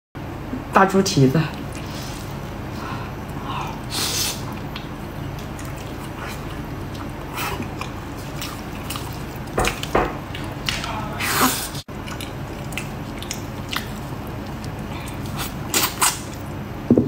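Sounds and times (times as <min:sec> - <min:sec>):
steady low hum: 0:00.2 - 0:17.0
wet chewing and smacking: 0:01.5 - 0:11.1, 0:11.9 - 0:16.6.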